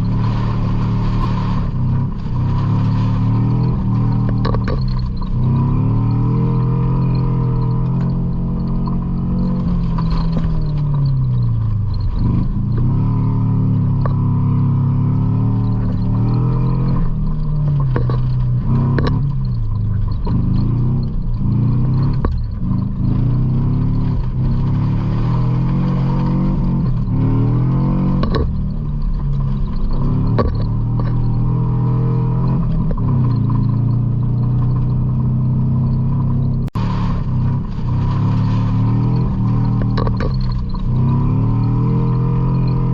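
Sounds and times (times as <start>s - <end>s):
truck engine revving: 0.0s - 42.9s
truck knocks and rattles: 0.0s - 42.9s.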